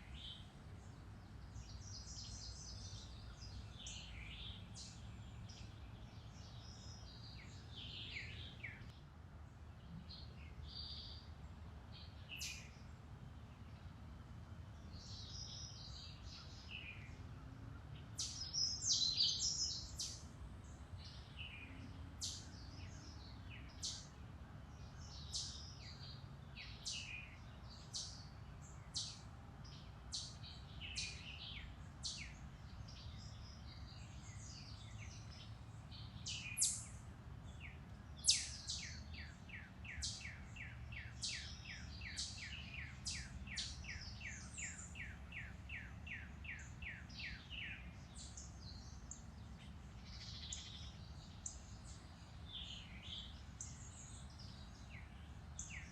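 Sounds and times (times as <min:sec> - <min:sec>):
songbirds chirping and singing: 0:00.0 - 0:09.0, 0:09.7 - 0:55.9
low steady rumble: 0:00.0 - 0:55.9.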